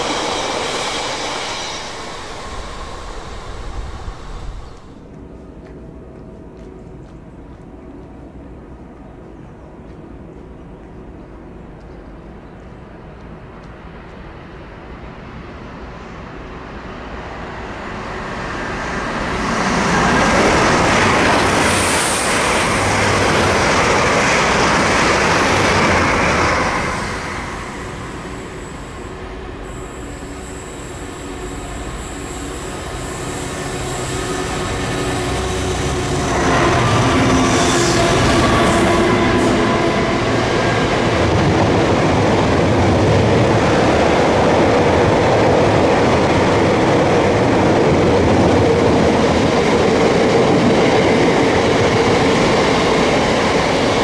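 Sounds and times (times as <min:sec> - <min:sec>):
train passing: 0:00.0 - 0:54.0.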